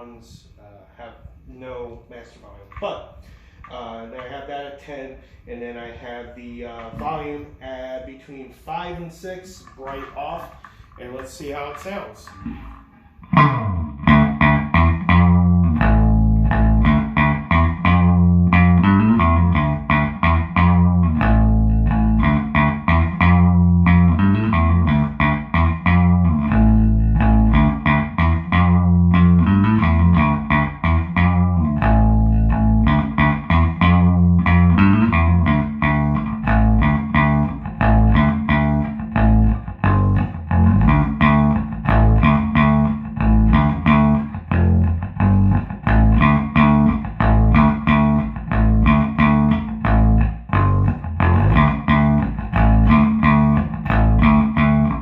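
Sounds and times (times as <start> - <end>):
electric bass guitar groove: 6.1 - 55.0.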